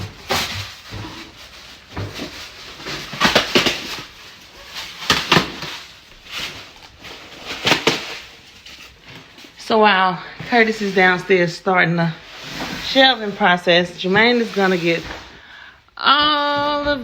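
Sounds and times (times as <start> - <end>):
styrofoam scraping and squeaking: 0.0 - 15.5.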